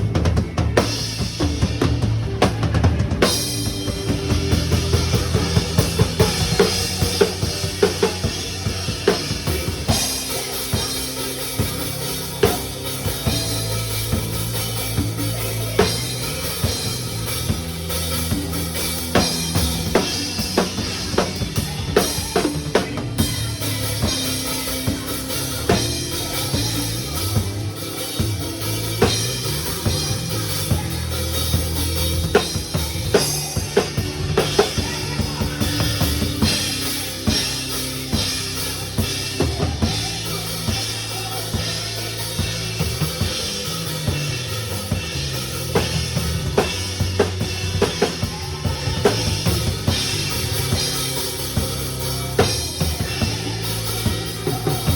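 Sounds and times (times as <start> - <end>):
bass line: 0.0 - 54.9
drum kit groove: 0.0 - 54.9.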